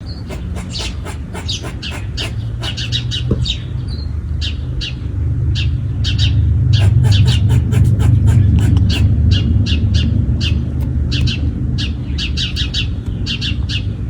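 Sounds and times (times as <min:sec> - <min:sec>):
small birds chirping: 0:00.0 - 0:05.0, 0:05.6 - 0:13.9
steady low rumble: 0:00.0 - 0:14.0.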